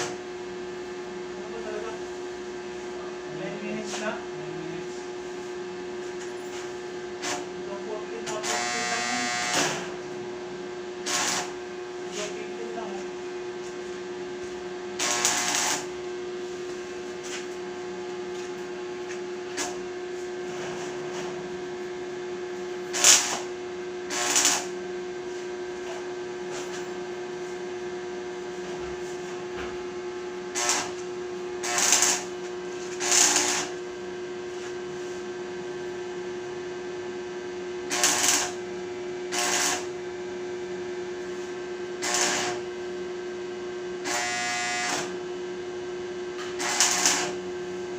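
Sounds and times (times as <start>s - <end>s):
welding machine humming: 3.4s - 10.2s, 11.0s - 20.9s, 21.5s - 27.6s, 28.4s - 36.5s, 37.5s - 43.0s, 43.9s - 45.3s, 46.3s - 47.9s.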